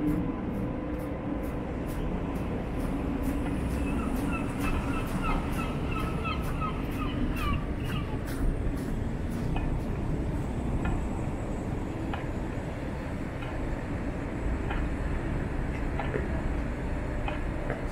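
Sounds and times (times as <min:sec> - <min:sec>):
traffic rumble on slushy road: 0:00.0 - 0:17.9.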